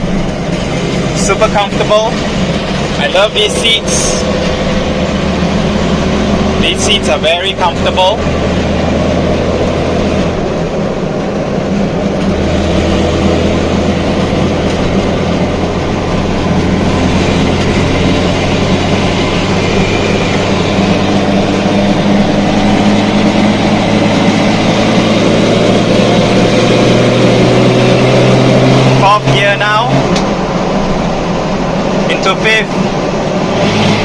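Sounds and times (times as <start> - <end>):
car engine drone: 0.0 - 34.0
road noise: 0.0 - 34.0.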